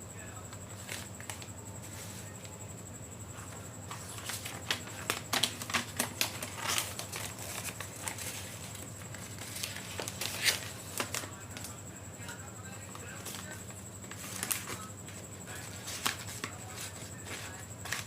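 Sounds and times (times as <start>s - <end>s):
paper crinkling and rustling: 0.5s - 2.5s, 3.4s - 18.0s.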